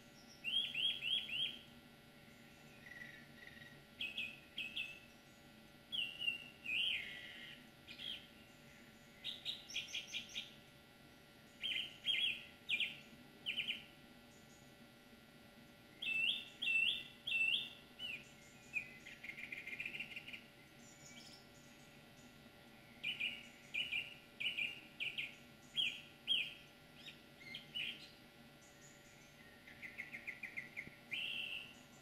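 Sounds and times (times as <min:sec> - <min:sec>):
songbird singing trills: 0:00.0 - 0:10.7, 0:11.4 - 0:14.8, 0:15.7 - 0:32.0.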